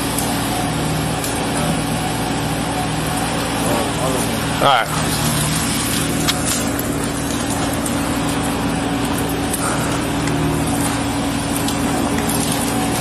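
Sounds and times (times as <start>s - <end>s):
loader engine droning: 0.0s - 13.0s.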